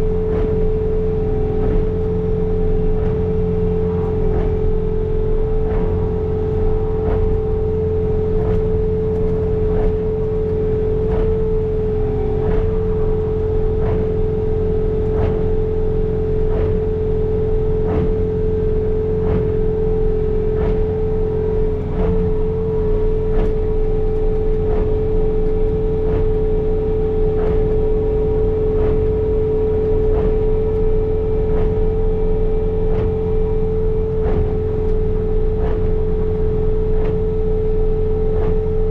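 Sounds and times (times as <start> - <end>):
high whine: 0.0 - 38.8
engine drone: 0.0 - 38.9.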